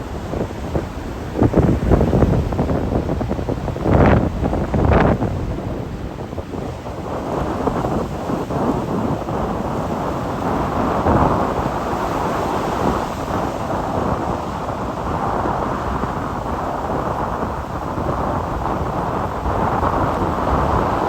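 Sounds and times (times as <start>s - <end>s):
sea waves: 0.0s - 21.0s
wind buffeting microphone: 0.0s - 21.0s.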